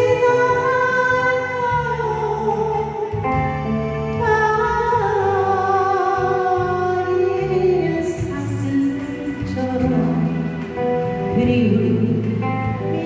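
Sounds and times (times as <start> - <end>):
accompaniment with steady bass line: 0.0 - 13.0
person singing a slow ballad: 0.0 - 13.0.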